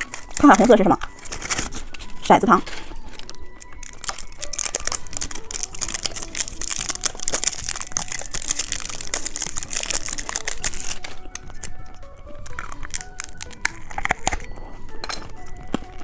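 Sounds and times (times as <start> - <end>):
plastic wrapper crinkling: 0.0 - 16.0.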